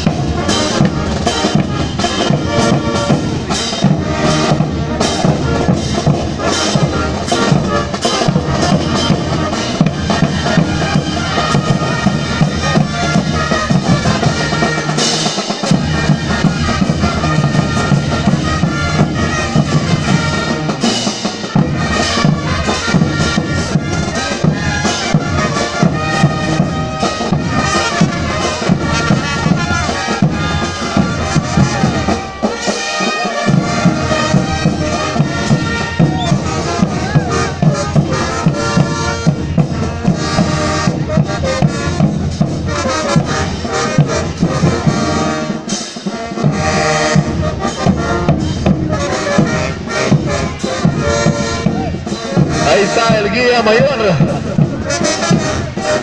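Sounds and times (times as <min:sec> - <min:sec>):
brass instruments: 0:00.0 - 0:56.0
steady drum beat: 0:00.0 - 0:56.0.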